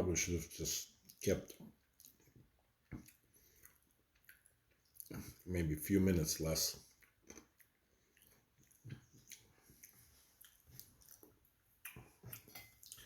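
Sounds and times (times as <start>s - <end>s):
person chewing food: 0.9s - 5.5s, 6.8s - 13.0s
mouth clicks and smacks: 1.0s - 5.5s, 6.9s - 13.0s.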